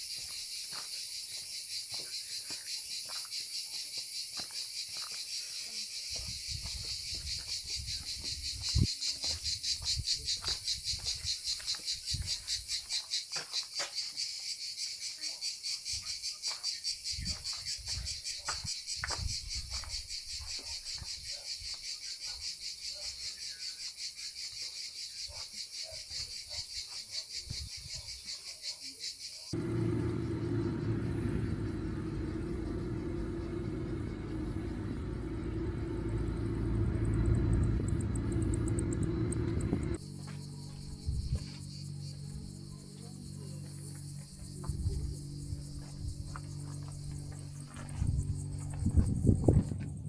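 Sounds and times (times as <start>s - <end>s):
insects trilling: 0.0s - 49.6s.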